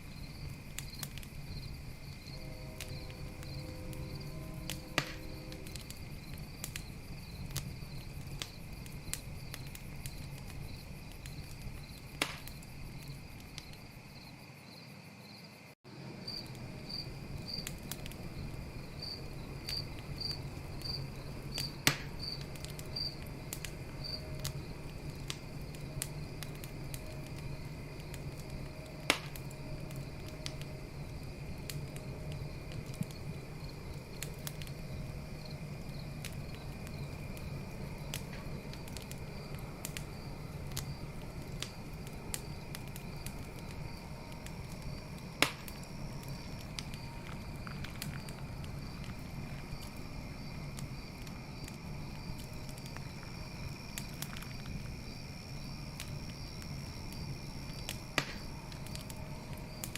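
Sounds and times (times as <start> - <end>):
campfire crackling and popping: 0.0 - 14.3, 15.9 - 59.9
crickets chirping: 0.0 - 59.9.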